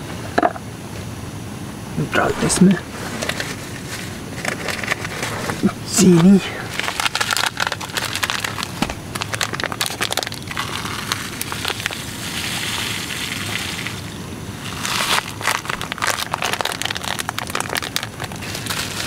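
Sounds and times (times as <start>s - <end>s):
sugar packet crinkling: 3.0s - 14.0s, 14.6s - 19.0s.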